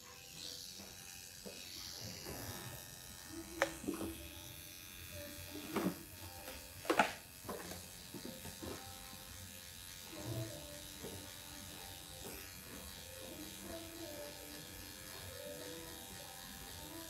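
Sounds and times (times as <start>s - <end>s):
tattoo machine buzzing: 0.0s - 17.0s.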